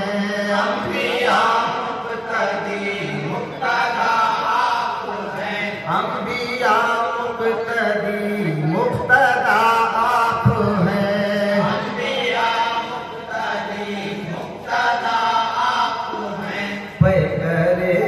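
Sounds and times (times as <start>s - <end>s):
men singing devotional chant: 0.0s - 18.0s.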